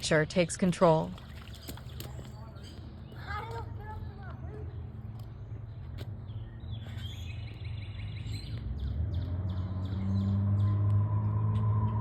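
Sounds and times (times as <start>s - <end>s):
birds chirping: 0.1s - 10.9s.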